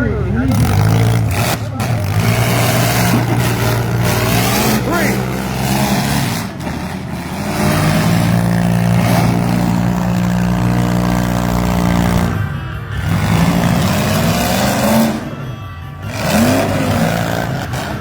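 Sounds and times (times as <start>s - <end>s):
engines running and revving: 0.0s - 18.0s.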